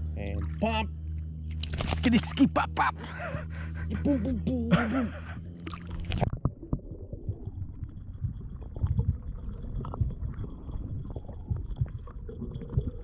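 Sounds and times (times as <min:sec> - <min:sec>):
underwater low rumble: 0:00.0 - 0:13.0.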